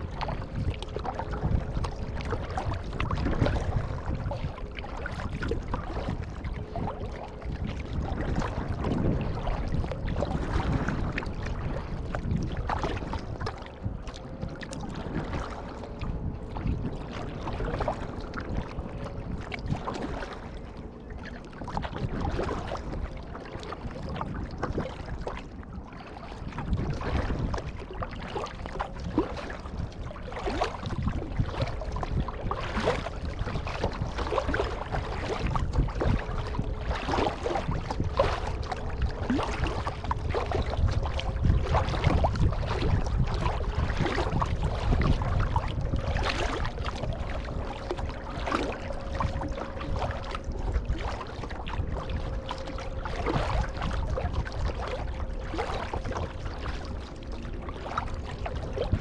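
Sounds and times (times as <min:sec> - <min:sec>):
low rumble: 0:00.0 - 0:59.0
paddle splashing water: 0:00.0 - 0:59.0
water lapping against hull: 0:00.0 - 0:59.0.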